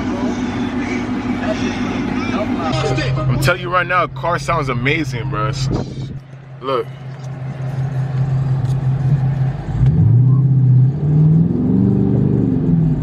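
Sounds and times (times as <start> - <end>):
car exhaust drone accelerating: 0.0 - 13.0.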